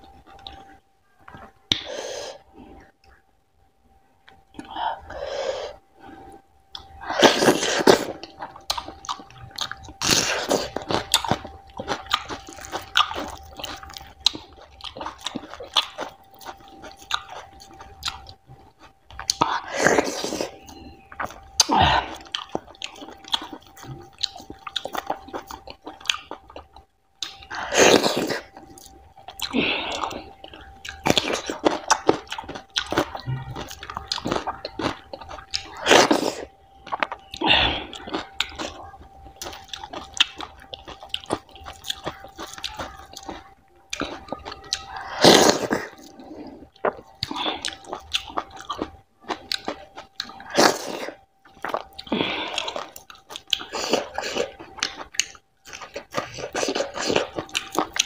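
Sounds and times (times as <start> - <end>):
faint steady tone: 0.0 - 58.0
chewing and mouth smacks: 6.3 - 58.0.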